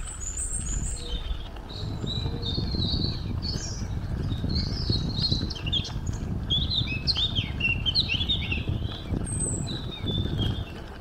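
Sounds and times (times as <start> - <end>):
songbirds chirping and twittering: 0.0 - 11.0.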